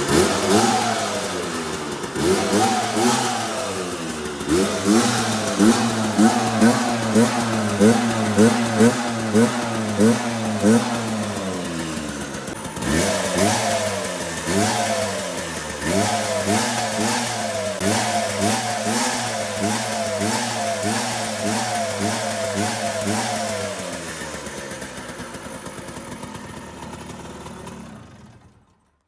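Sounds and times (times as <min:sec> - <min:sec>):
scooter engine revving and idling: 0:00.0 - 0:29.0.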